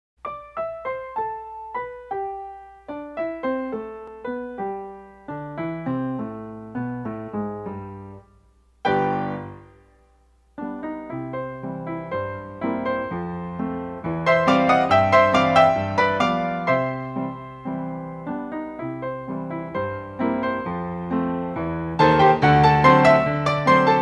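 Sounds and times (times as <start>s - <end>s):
piano notes: 0.2s - 24.0s.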